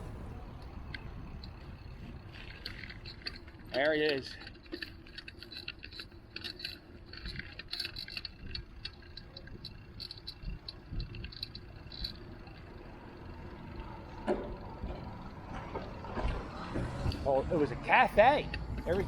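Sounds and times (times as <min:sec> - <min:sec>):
bicycle rattling and clicking: 0:00.0 - 0:19.0.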